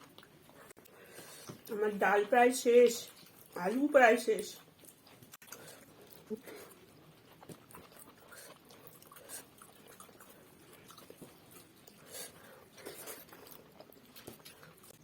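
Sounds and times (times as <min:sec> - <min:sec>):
people chewing and mouth smacks: 0:00.0 - 0:01.8, 0:02.9 - 0:03.8, 0:04.6 - 0:15.0.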